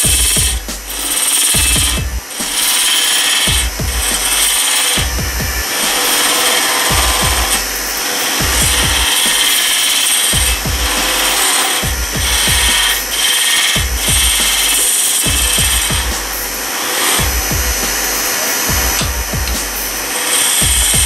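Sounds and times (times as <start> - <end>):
turning tool scraping wood: 0.0 - 21.0
wood lathe spinning: 0.0 - 21.0.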